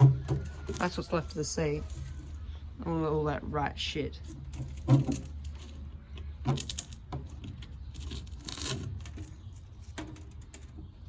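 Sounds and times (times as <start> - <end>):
debris rustling and scraping: 0.0 - 2.8, 4.0 - 11.0.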